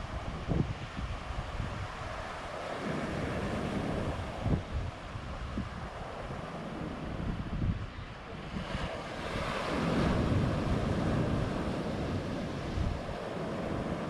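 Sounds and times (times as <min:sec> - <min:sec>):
ocean surf breaking: 0:00.0 - 0:07.6, 0:08.2 - 0:14.0
wind buffeting microphone: 0:00.0 - 0:14.0.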